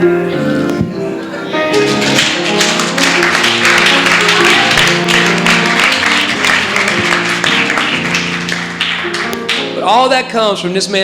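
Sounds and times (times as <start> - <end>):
keyboard chords: 0.0 - 11.0
crowd applauding: 1.0 - 9.9.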